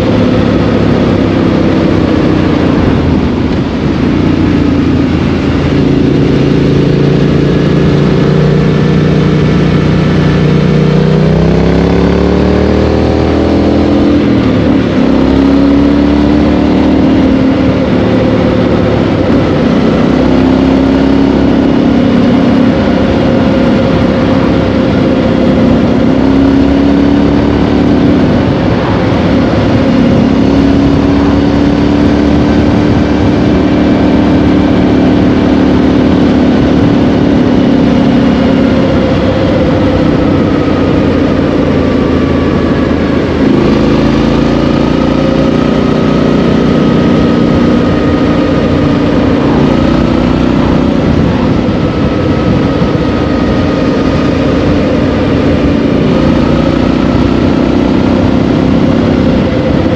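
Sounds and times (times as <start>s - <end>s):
motorcycle engine at road speed: 0.0s - 59.9s.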